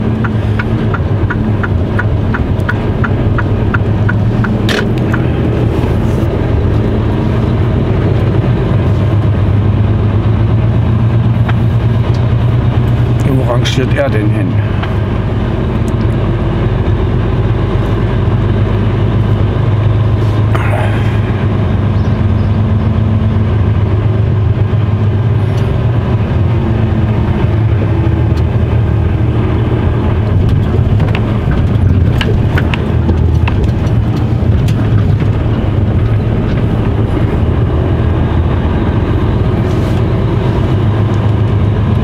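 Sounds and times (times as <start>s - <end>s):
truck diesel engine droning: 0.0s - 42.0s.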